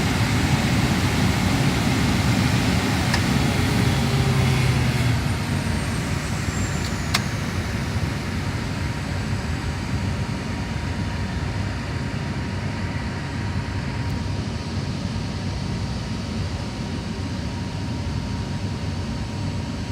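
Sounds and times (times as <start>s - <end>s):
steady mechanical noise: 0.0s - 19.9s.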